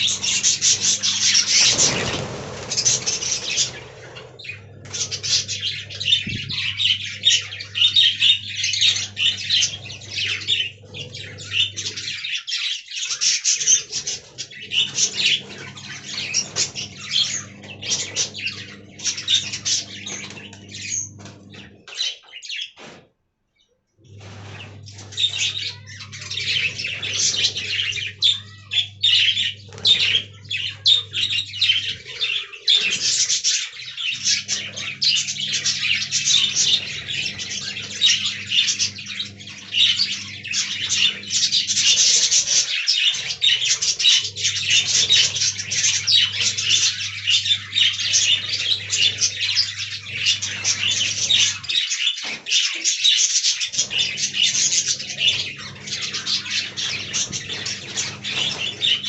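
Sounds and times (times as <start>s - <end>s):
budgerigars chattering and warbling: 0.0s - 23.0s, 24.0s - 59.0s.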